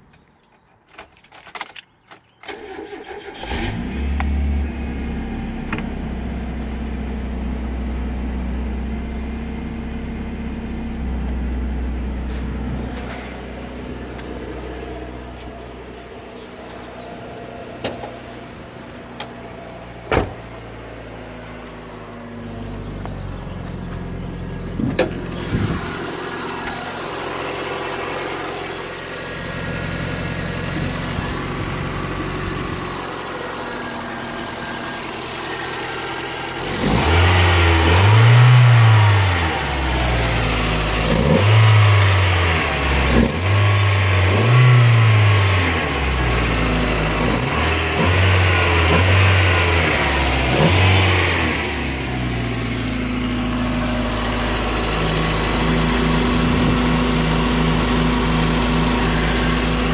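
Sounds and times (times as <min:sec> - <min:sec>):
car engine idling and revving: 0:02.6 - 0:59.9.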